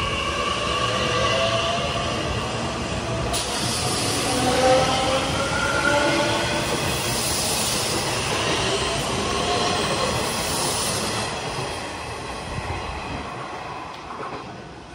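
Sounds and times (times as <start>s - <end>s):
train wheels on rails: 0.0s - 14.9s.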